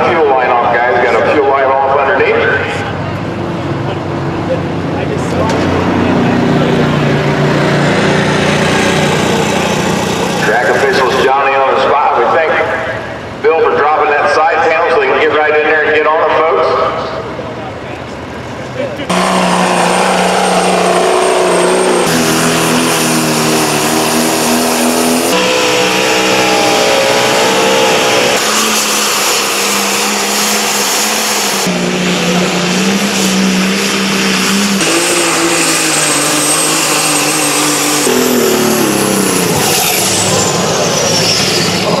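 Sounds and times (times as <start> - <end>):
pulling vehicle engines revving: 0.0 - 42.0.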